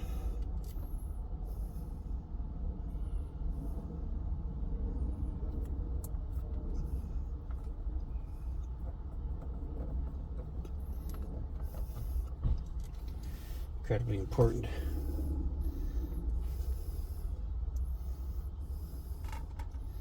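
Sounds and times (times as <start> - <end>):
low rumble inside truck cab: 0.0 - 20.0.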